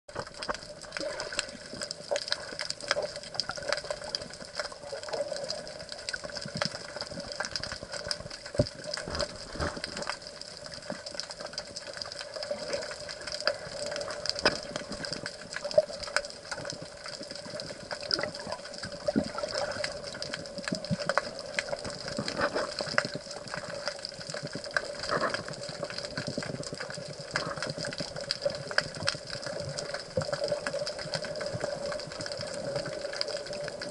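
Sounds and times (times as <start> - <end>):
muffled rush of water: 0.1 - 33.9
small clicks and crackles: 0.1 - 33.9.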